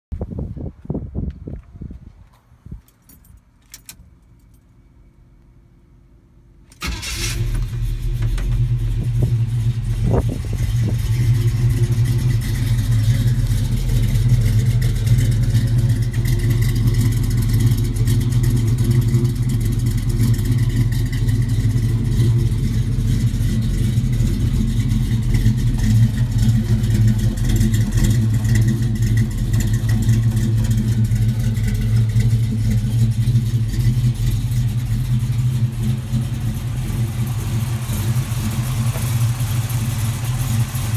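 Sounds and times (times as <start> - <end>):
truck engine starting and idling: 6.1 - 40.9.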